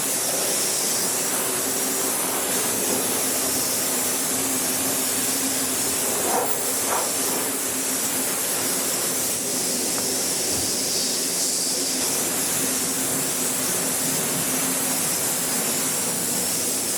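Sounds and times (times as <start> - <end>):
car wash equipment hissing: 0.0 - 16.9.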